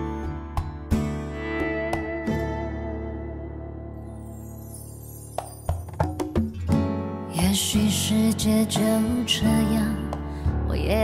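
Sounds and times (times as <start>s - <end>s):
instrumental pop ballad: 0.0s - 11.0s.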